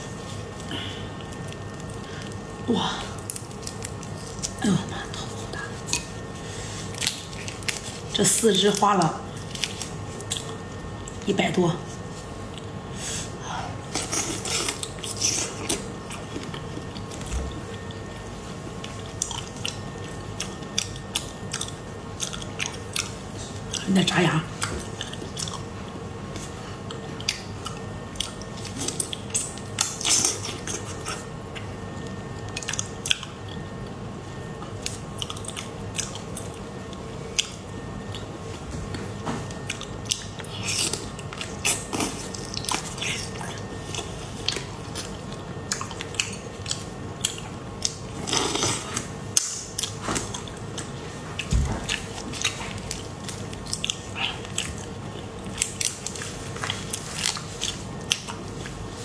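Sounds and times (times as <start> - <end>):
wet biting and chewing: 3.2 - 11.2, 13.9 - 23.9, 24.6 - 58.9.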